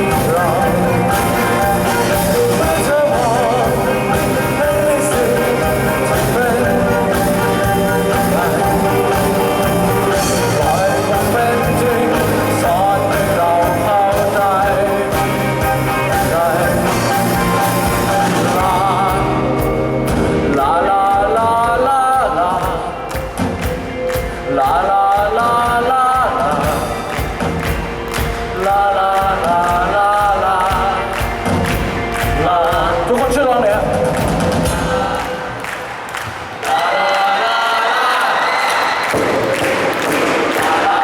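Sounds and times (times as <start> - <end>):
rock band playing: 0.0 - 35.7
person singing: 0.0 - 35.9, 36.6 - 41.0.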